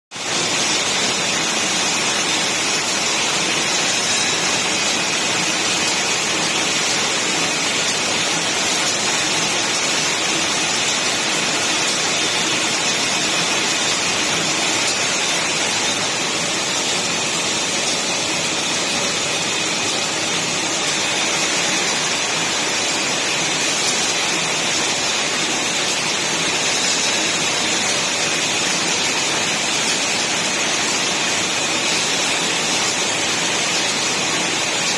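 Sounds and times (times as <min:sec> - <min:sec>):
packaging machine hissing: 0:00.2 - 0:34.9.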